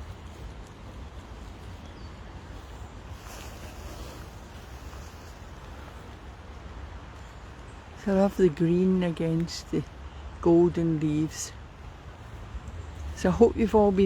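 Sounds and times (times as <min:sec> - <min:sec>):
fast-flowing river: 0:00.0 - 0:14.0
wind rumbling on microphone: 0:00.0 - 0:14.0.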